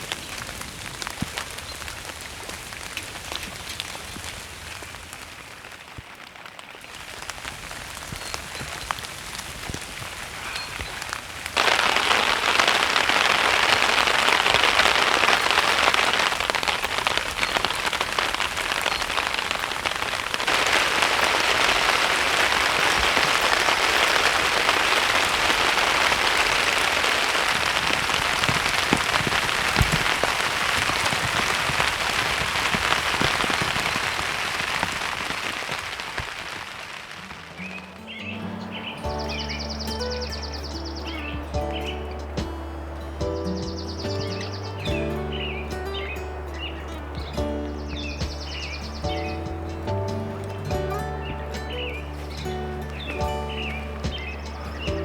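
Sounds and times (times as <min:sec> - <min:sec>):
heavy rain pattering: 0:00.0 - 0:55.0.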